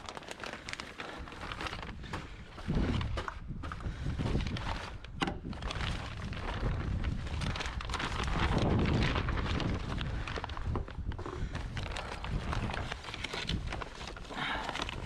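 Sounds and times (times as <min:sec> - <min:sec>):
plastic sheeting crinkling and flapping: 0:00.0 - 0:15.0
wind buffeting microphone: 0:01.5 - 0:13.9.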